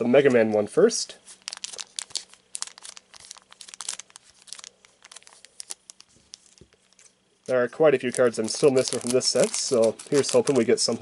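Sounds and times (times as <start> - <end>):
foil wrapper crinkling: 1.2 - 11.0.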